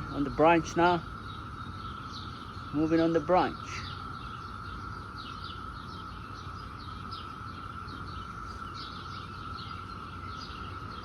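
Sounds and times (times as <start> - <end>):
birds chirping: 0.0 - 11.0
distant cicadas droning: 0.0 - 11.0.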